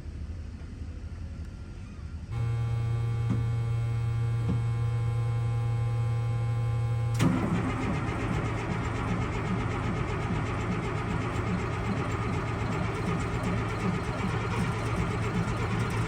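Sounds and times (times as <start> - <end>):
diesel engine running unevenly: 2.4 - 16.0
steady whine: 2.4 - 16.0.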